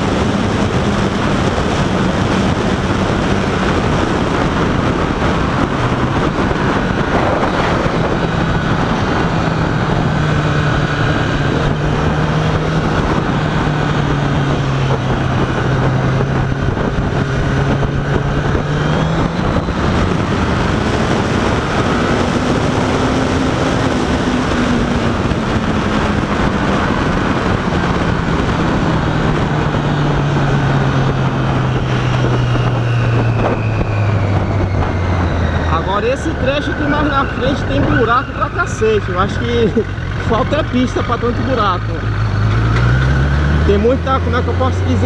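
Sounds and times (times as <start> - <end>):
motorcycle engine running: 0.0 - 45.0
wind rushing: 0.0 - 45.0.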